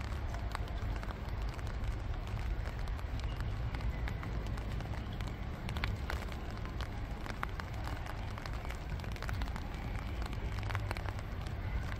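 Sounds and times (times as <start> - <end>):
rain pattering on a pond: 0.0 - 11.9
steady low rumble: 0.0 - 11.9.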